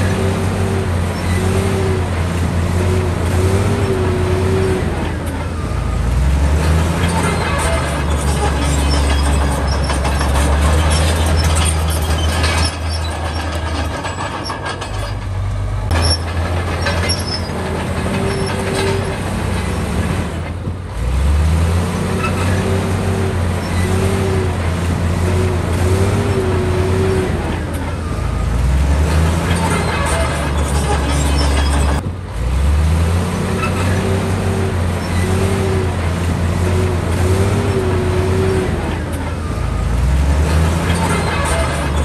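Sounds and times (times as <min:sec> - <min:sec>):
heavy diesel engines running: 0:00.0 - 0:42.0.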